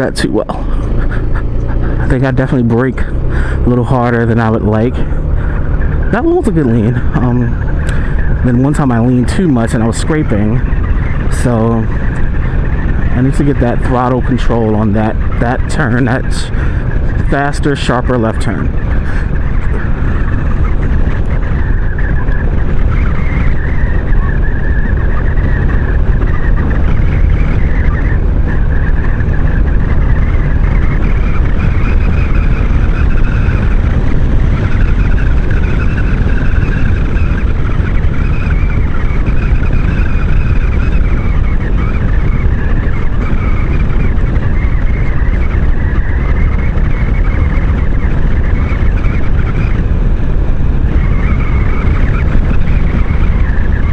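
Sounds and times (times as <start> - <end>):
scooter engine drone: 0.0 - 53.9
wind buffeting microphone: 0.0 - 53.9.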